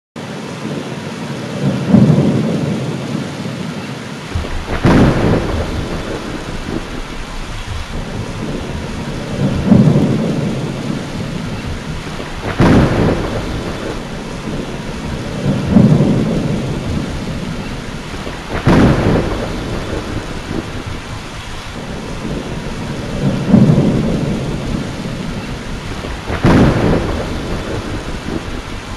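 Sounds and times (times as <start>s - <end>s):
steady rain: 0.2s - 28.9s
thunder rumbles and cracks: 0.4s - 28.9s.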